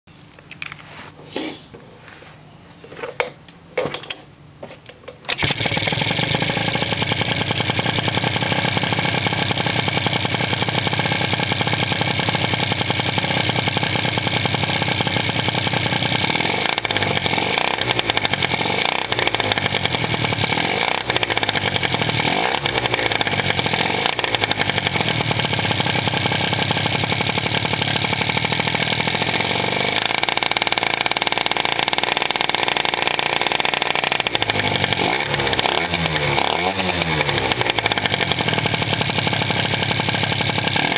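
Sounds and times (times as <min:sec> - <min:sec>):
scooter engine idling and revving: 0:05.3 - 0:40.9.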